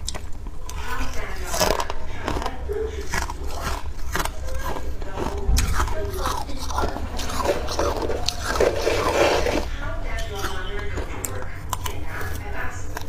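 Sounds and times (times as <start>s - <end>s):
crunchy biting and chewing: 0.0s - 13.0s.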